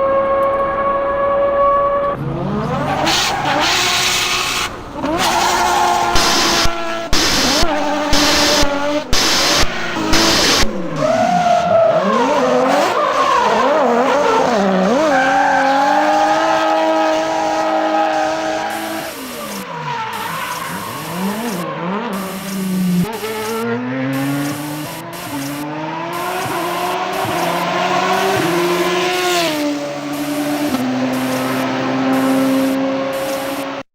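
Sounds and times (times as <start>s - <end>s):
engine sound effects revving: 0.7s - 33.9s.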